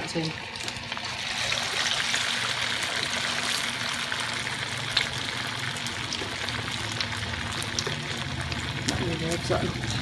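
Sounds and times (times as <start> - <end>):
hot oil sizzling in a wok: 0.0 - 10.0.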